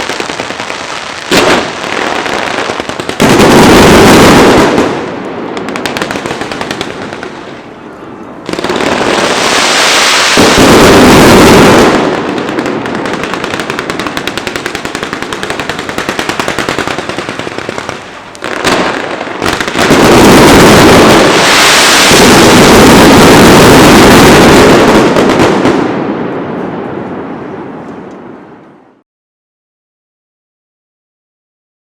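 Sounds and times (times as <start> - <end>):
fireworks bangs and crackling: 0.0 - 7.8, 8.4 - 28.4.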